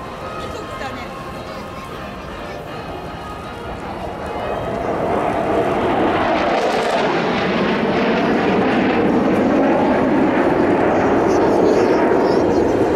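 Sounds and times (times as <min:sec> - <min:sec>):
jets flying past overhead: 0:01.2 - 0:12.9.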